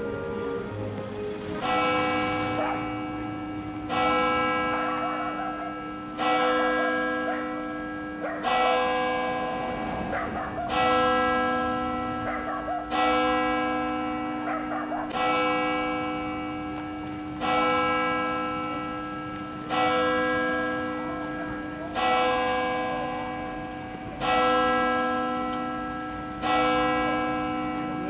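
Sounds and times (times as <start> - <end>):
large bell tolling: 0.0 - 28.0.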